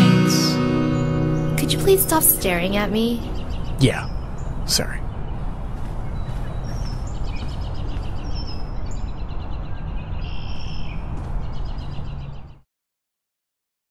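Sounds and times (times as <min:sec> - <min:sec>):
birds chirping in trills: 0:00.5 - 0:12.6.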